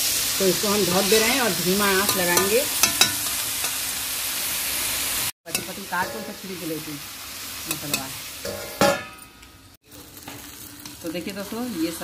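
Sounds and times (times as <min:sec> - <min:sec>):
vegetables sizzling in pan: 0:00.0 - 0:12.0.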